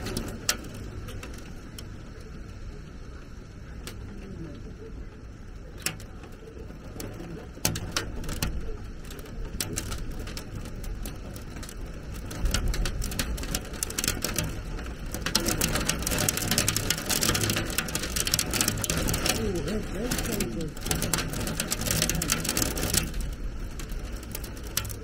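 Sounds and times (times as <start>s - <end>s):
heavy rain hitting surfaces: 0.0s - 25.0s.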